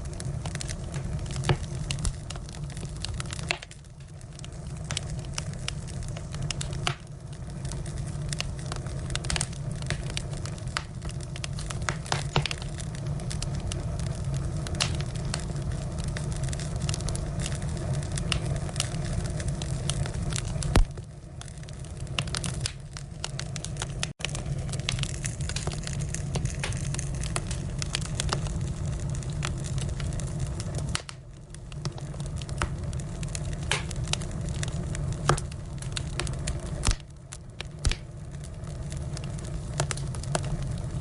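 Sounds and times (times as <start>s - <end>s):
firewood crackling and popping: 0.0s - 41.0s.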